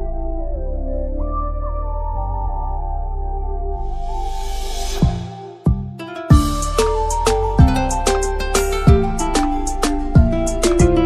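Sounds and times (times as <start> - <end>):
soft ambient keyboard music: 0.0 - 11.0.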